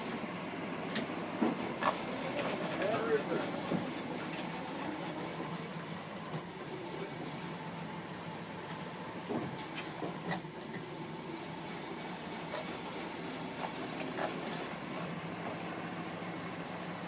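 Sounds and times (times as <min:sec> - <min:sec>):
plow engine running: 0:00.0 - 0:17.0.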